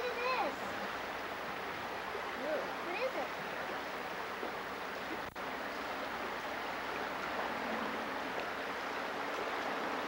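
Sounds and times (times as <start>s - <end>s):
water rushing in a stream: 0.0s - 10.0s.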